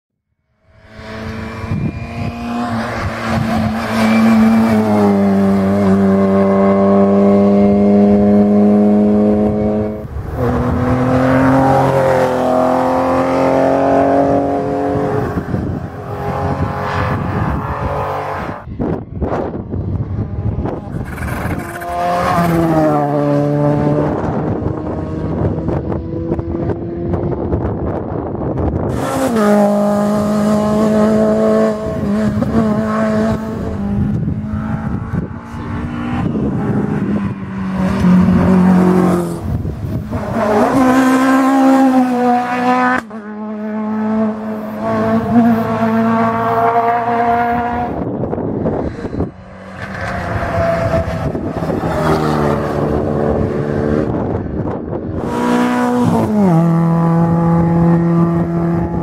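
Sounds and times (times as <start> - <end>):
rally car engines revving: 0.6 - 59.0.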